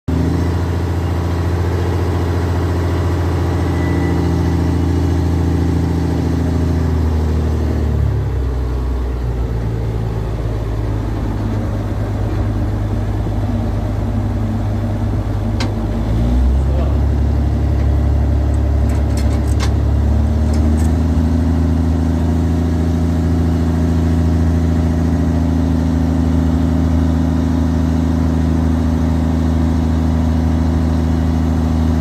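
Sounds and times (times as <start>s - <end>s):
locomotive diesel engine running: 0.1s - 32.0s.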